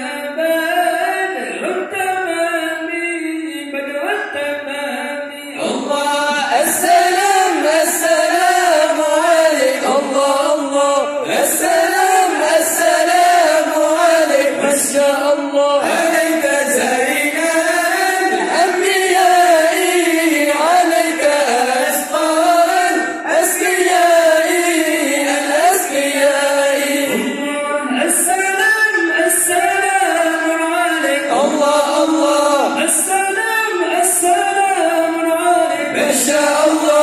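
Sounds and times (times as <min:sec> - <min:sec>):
group of men chanting: 0:05.6 - 0:28.3, 0:29.2 - 0:33.1, 0:33.7 - 0:37.0.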